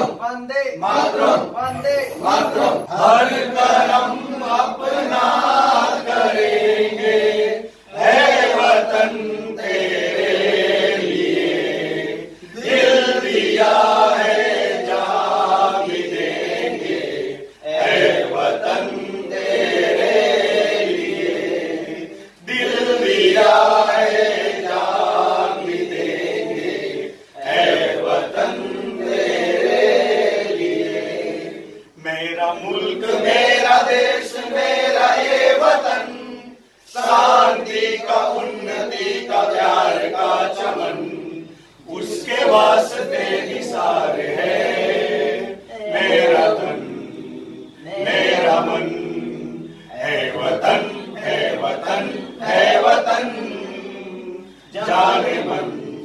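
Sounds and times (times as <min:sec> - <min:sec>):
men singing in unison: 0:00.8 - 0:56.0.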